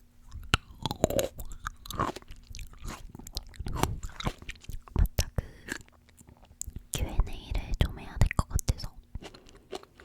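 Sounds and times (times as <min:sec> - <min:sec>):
chewing juicy fruit: 0:00.2 - 0:10.0.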